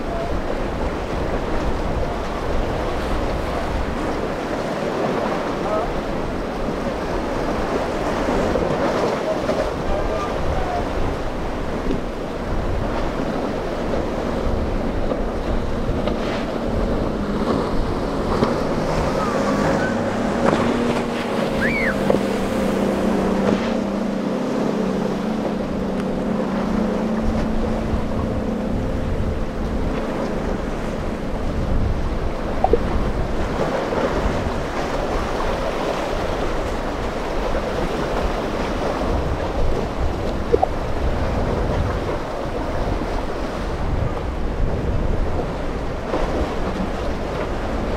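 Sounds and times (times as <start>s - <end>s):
outboard engines humming: 0.0s - 47.9s
waves and surf: 0.0s - 47.9s
wind buffeting microphone: 0.0s - 47.9s.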